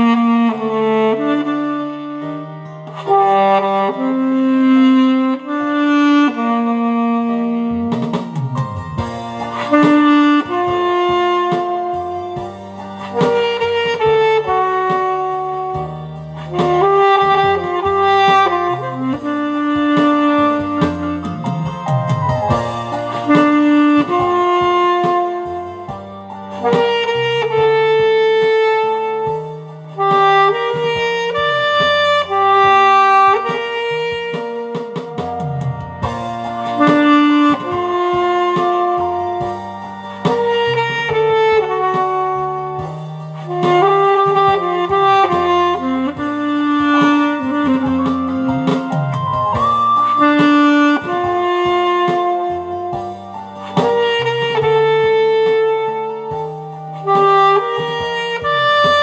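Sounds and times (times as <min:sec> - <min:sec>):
alto saxophone slow melody: 0:00.0 - 0:59.0
backing track with bass line: 0:00.0 - 0:59.0.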